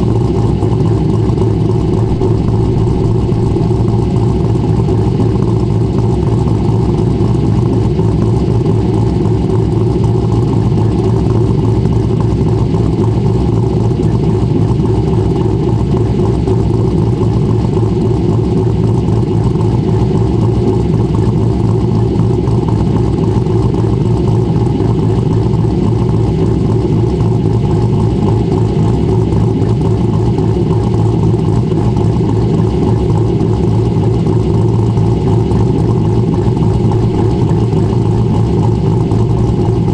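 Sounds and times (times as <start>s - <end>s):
car engine running loud: 0.0s - 39.9s.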